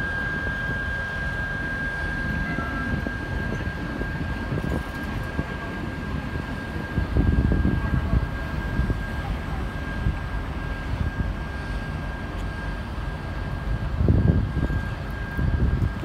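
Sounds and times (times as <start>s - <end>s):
distant locomotive running: 0.0s - 16.0s
thin high whine: 0.0s - 16.0s.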